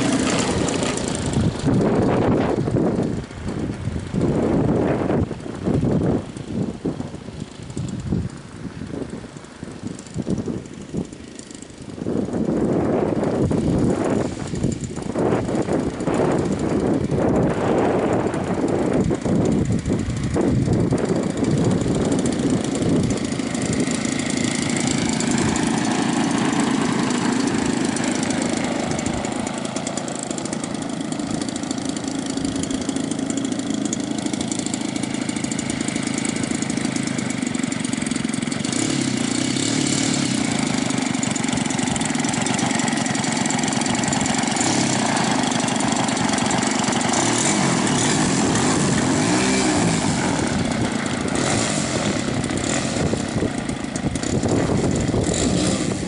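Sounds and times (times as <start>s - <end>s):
model plane engine idling: 0.0s - 56.0s.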